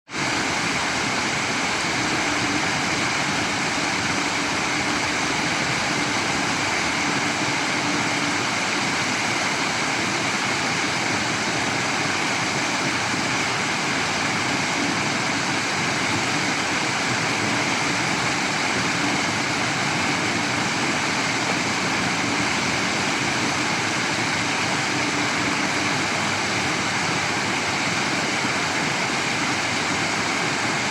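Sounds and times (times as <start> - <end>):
running water rushing: 0.1 - 30.9.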